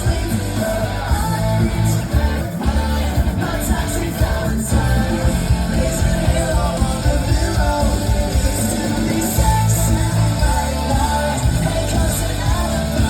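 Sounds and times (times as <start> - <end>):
music with singing voice: 0.0 - 13.0
steady pulsing beat: 0.0 - 13.0.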